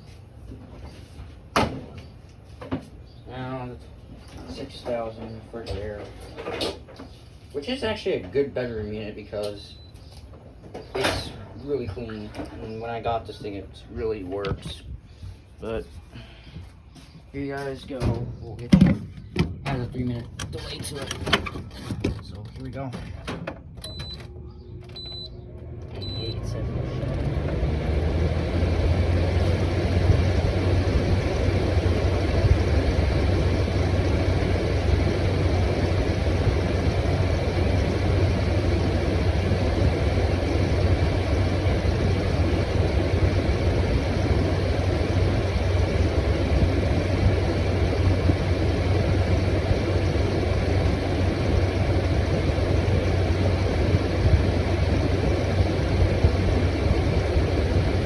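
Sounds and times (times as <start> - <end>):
air conditioner fan rushing: 0.0 - 58.0
compressor low hum: 0.0 - 58.0.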